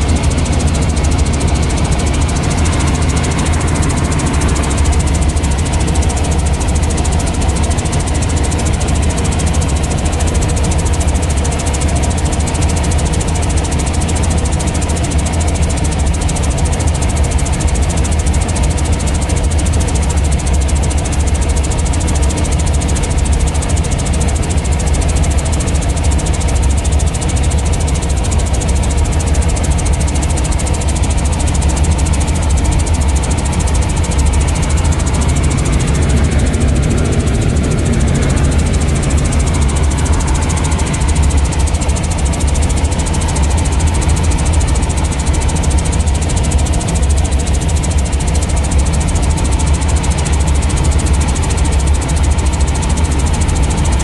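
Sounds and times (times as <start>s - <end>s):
helicopter engine and rotor droning: 0.0s - 54.0s.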